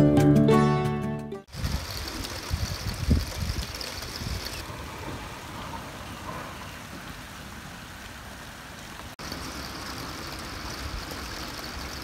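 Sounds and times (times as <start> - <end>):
rain falling: 1.5 - 12.0.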